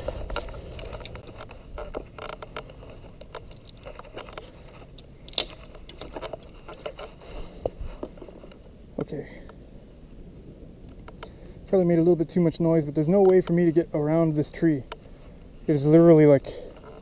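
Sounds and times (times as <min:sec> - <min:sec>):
crackling and rustling of dry brush: 0:00.0 - 0:17.0.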